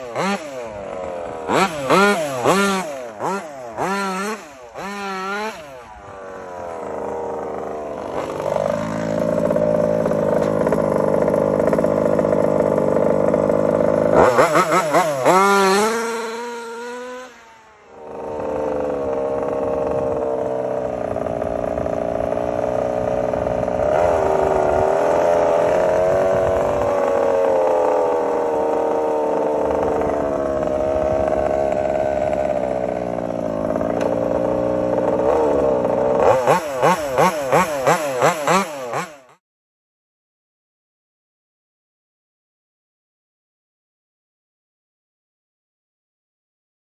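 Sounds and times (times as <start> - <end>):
two-stroke engine running: 0.0 - 39.4.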